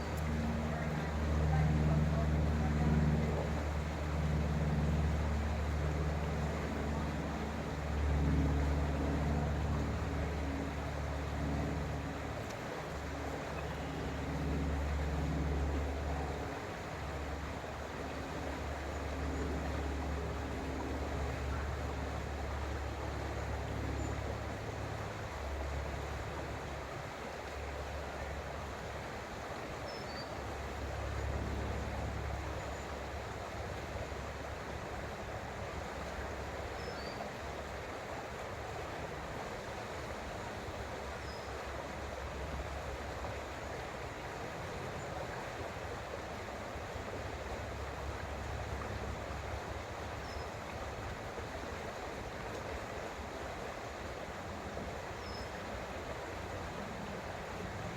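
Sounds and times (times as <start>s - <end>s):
creek water flowing: 0.0s - 57.9s.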